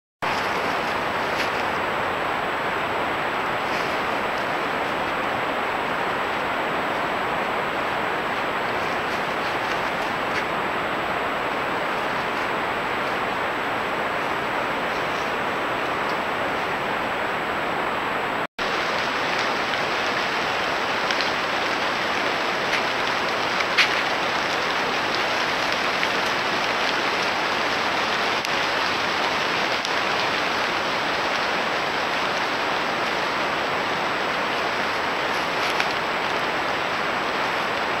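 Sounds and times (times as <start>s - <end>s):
microphone hiss: 0.2s - 38.0s.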